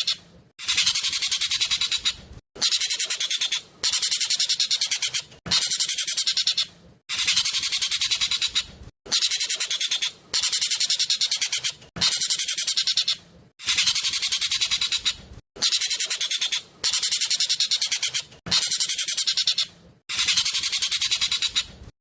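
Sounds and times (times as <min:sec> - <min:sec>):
bird chirping: 0:00.0 - 0:21.8.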